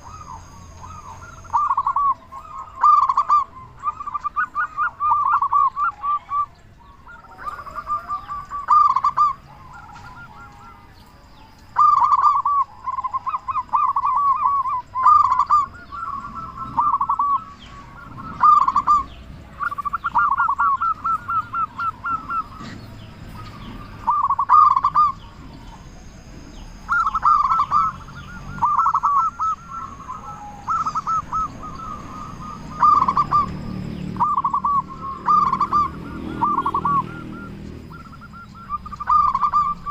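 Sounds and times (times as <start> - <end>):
zebra dove cooing: 0.0 - 39.9.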